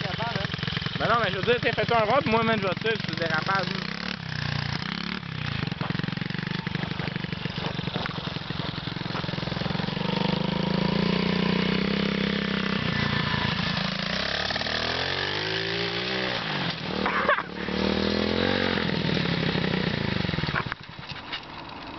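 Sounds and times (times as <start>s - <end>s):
pit bike engine revving: 0.0s - 21.9s.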